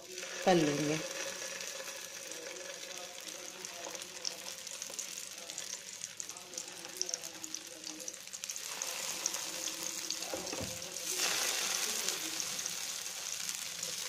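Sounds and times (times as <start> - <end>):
patties sizzling in hot oil: 0.0 - 14.0.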